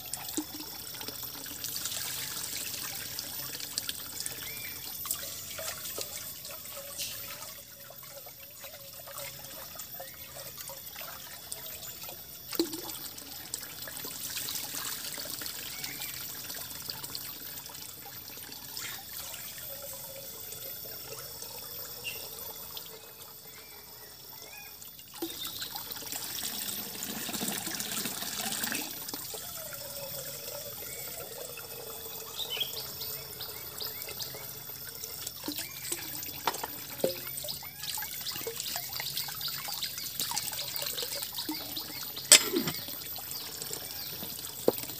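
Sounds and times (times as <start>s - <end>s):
water running and trickling: 0.0s - 44.9s.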